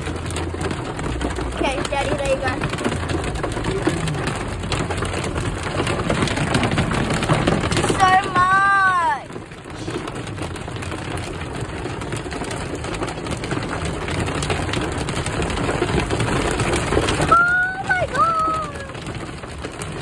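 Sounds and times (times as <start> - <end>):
hail drumming on a car: 0.0 - 20.0.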